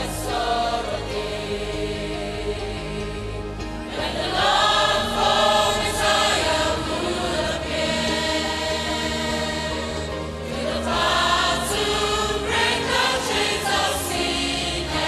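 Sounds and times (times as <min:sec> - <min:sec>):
mixed choir singing a hymn: 0:00.0 - 0:15.0.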